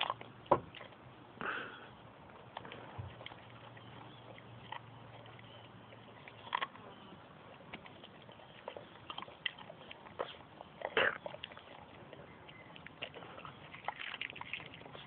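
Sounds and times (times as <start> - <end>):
dog chewing crunches: 0.0 - 15.0.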